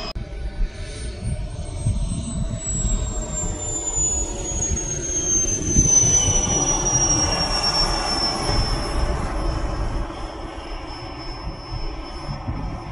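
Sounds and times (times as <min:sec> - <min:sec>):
low rumble: 0:00.0 - 0:12.9
model jet engine whining: 0:00.0 - 0:12.9.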